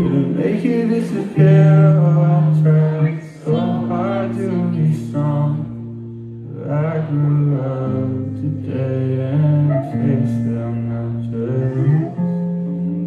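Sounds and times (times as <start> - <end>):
guitar: 0.0 - 13.0
man singing: 0.0 - 13.0.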